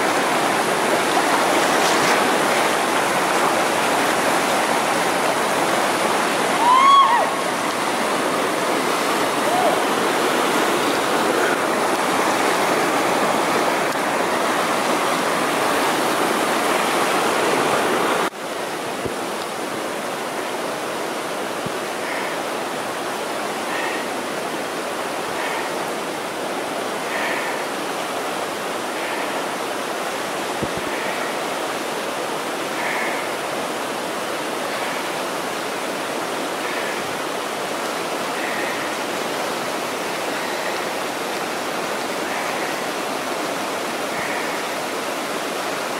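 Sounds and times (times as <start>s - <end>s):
whitewater rapids rushing: 0.0s - 45.9s.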